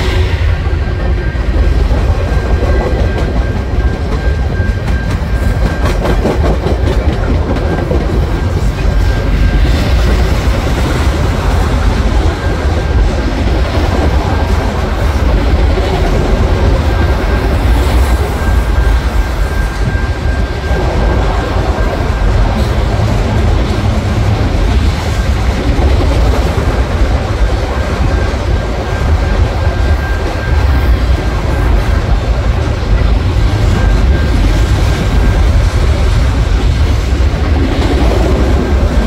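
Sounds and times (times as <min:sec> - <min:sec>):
crossing signal bell ringing: 0:00.0 - 0:39.0
rumble of wheels on rail: 0:00.0 - 0:39.0
wheels clacking over rail joints: 0:00.6 - 0:39.0.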